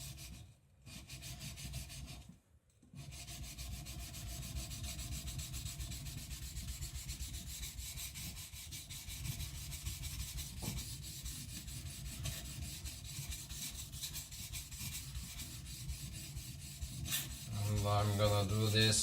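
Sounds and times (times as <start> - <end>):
blade scraping on whetstone: 3.0 - 19.0.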